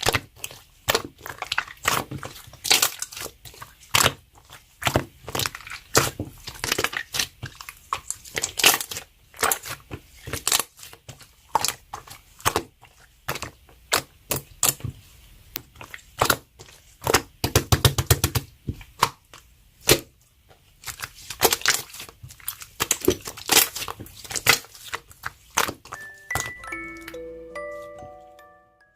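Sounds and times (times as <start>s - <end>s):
slime squished by hand: 0.0s - 26.0s.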